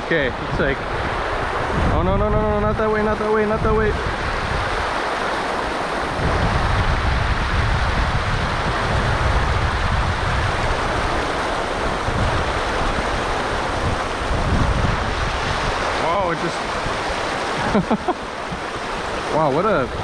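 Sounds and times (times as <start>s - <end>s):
river current rushing: 0.0s - 20.0s
wind buffeting microphone: 0.0s - 20.0s.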